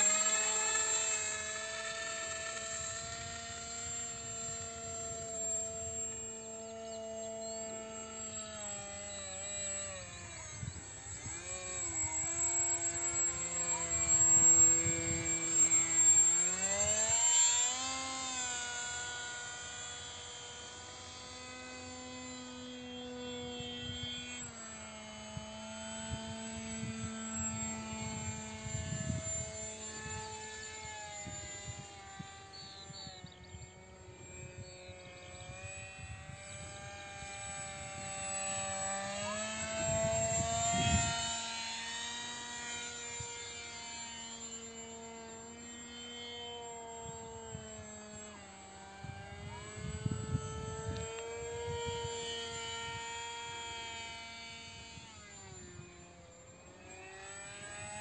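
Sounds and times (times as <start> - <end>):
electric motor propeller whine: 0.0 - 58.0.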